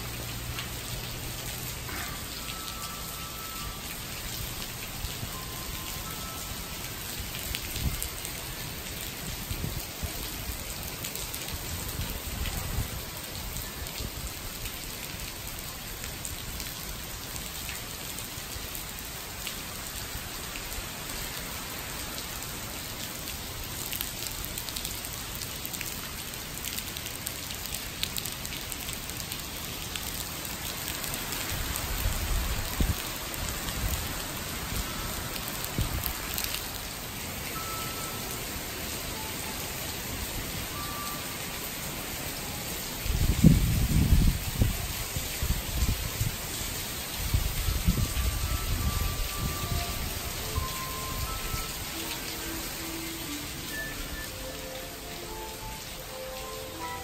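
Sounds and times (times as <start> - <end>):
heavy rain pouring on road: 0.0 - 57.0.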